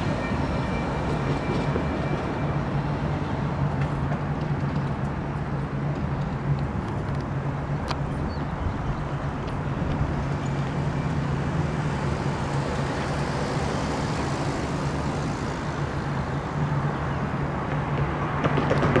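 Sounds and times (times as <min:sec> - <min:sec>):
low hum of engines: 0:00.0 - 0:19.0.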